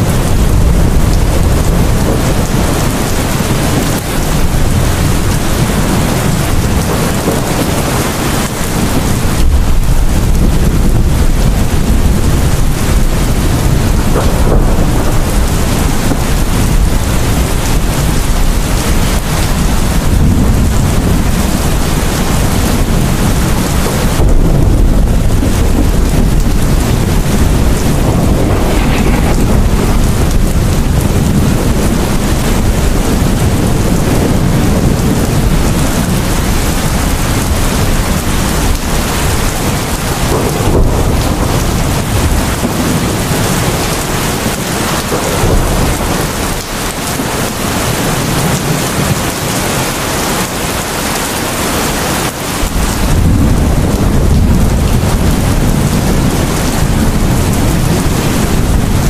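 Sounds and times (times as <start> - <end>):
heavy rain pouring: 0.0 - 59.0
rumbling thunder: 0.0 - 59.0.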